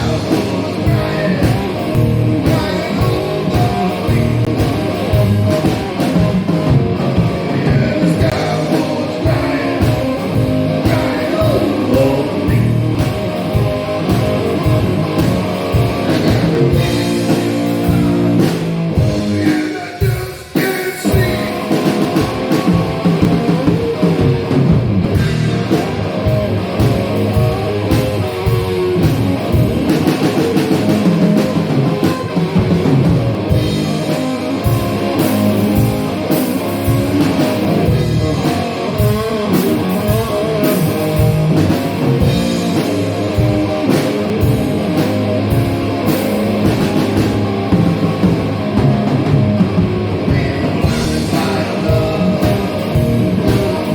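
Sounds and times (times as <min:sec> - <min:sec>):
electric guitar: 0:00.0 - 0:53.9
pounding drum kit: 0:00.0 - 0:53.9.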